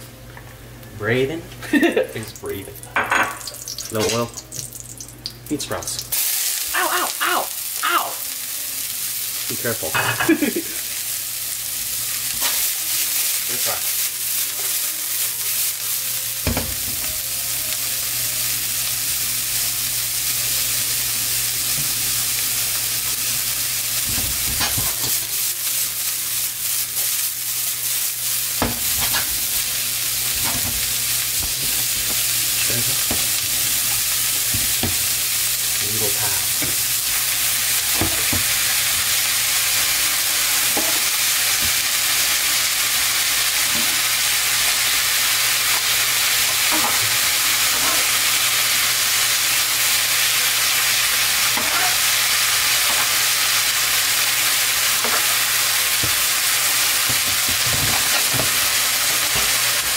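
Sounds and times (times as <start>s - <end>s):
bean sprouts sizzling in wok: 1.7s - 59.9s.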